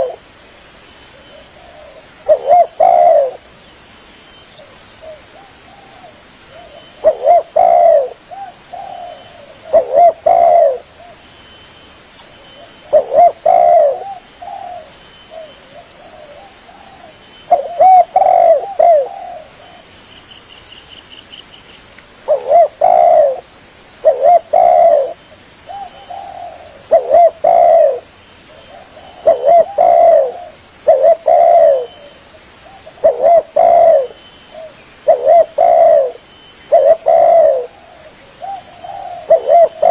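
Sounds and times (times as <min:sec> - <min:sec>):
dove cooing: 0:00.0 - 0:00.3, 0:01.1 - 0:03.5, 0:04.6 - 0:11.2, 0:12.6 - 0:19.9, 0:22.2 - 0:23.4, 0:24.0 - 0:39.9
faint high chirping: 0:00.0 - 0:39.9.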